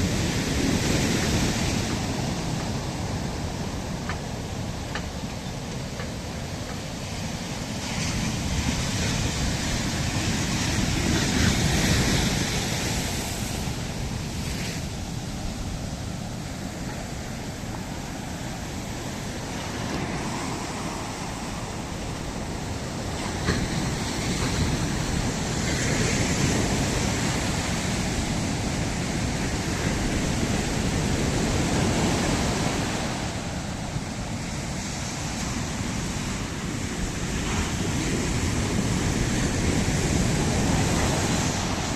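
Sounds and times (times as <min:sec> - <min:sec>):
ocean surf breaking on beach: 0:00.0 - 0:41.9.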